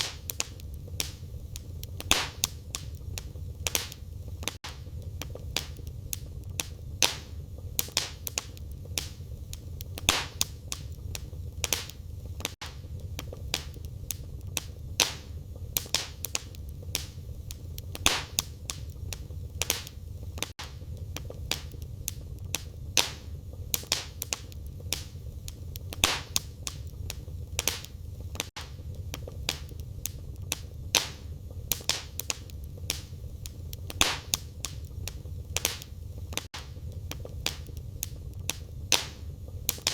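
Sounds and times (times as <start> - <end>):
fire crackling: 0.0 - 39.9
sharp pops of burning wood: 0.0 - 39.9.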